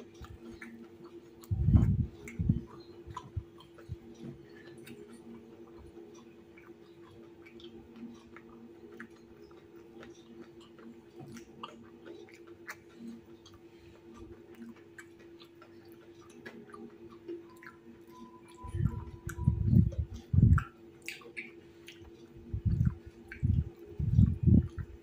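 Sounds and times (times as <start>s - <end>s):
faint steady hum: 0.0s - 25.0s
mouth clicks: 0.0s - 25.0s
person chewing crispy food: 0.0s - 25.0s.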